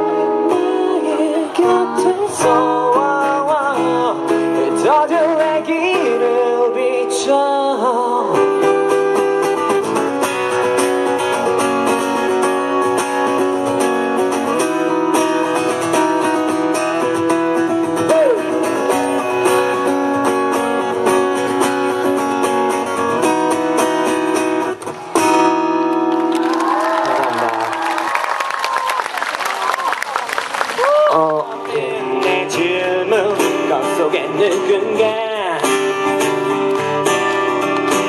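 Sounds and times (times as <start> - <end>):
acoustic guitar strummed and picked: 0.0 - 26.3, 31.2 - 38.0.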